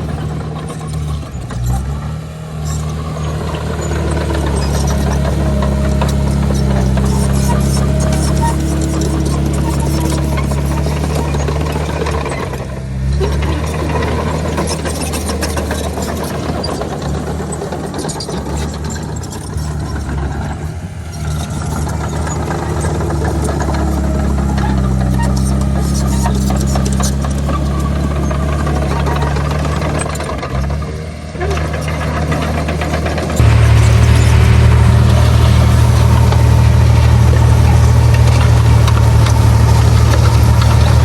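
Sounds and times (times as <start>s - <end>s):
heavy machinery diesel engine: 0.0s - 41.0s
clattering and rattling: 2.6s - 41.0s.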